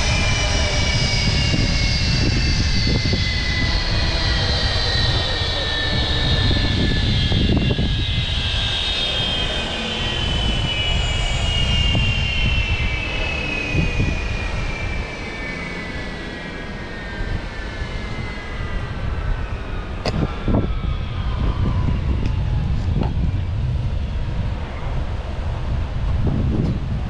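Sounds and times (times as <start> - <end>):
heavy low rumble: 0.0 - 15.1, 18.7 - 27.0
jet engine whine: 0.0 - 27.0.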